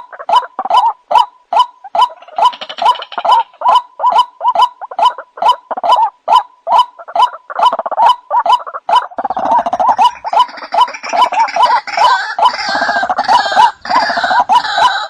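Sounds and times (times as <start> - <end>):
bird croaking call: 0.0 - 15.0.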